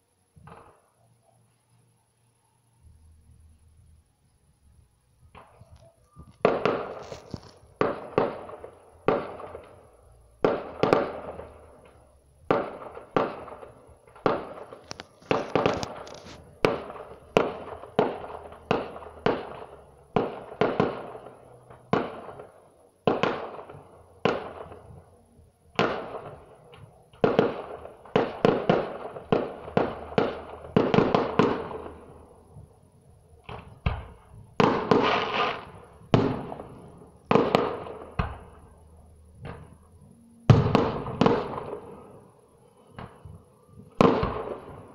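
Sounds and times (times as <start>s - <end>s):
fireworks bursting with echo: 0.0s - 1.4s, 5.2s - 44.9s.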